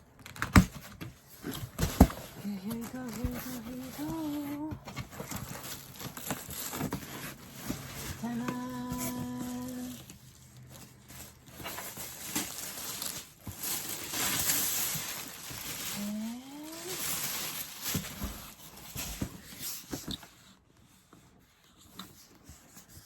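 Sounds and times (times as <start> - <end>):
packaging rustling and crinkling: 0.0 - 20.6.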